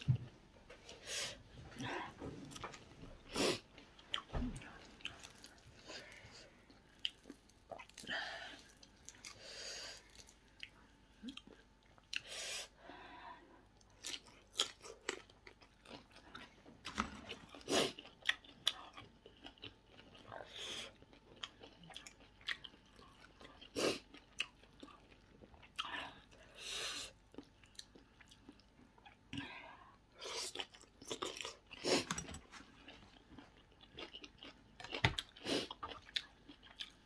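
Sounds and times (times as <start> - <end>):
person chewing seafood: 0.0 - 12.4, 13.7 - 29.4, 30.1 - 37.0.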